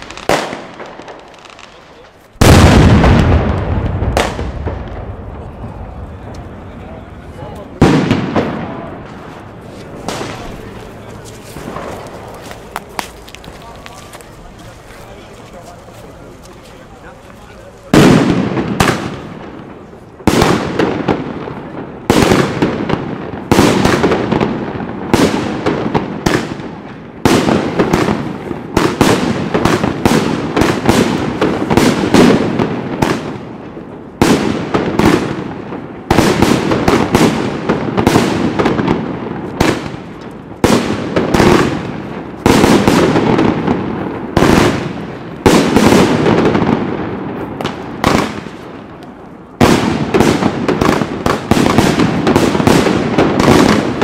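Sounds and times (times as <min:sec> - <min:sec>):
fireworks exploding with echo: 0:00.0 - 0:54.0.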